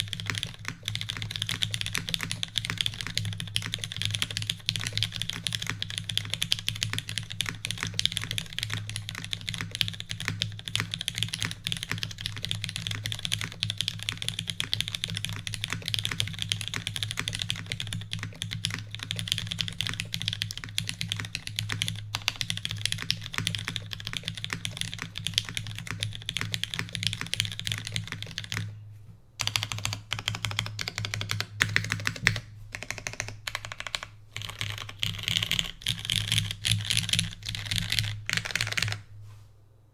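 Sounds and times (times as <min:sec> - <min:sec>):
typing on mechanical keyboard: 0:00.0 - 0:28.8, 0:29.4 - 0:39.1.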